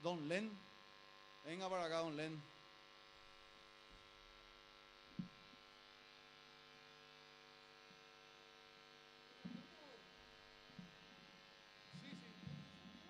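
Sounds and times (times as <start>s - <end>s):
faint mains hum and buzz: 0.0s - 13.0s.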